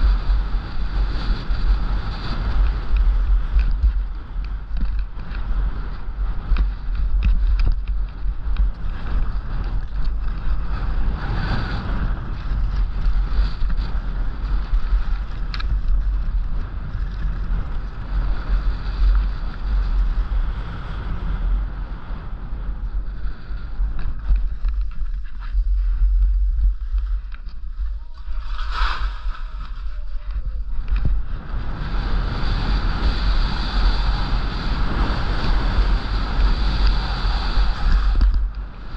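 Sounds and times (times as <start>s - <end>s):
skis scraping over snow: 0.0s - 38.9s
wind buffeting microphone: 0.0s - 38.9s.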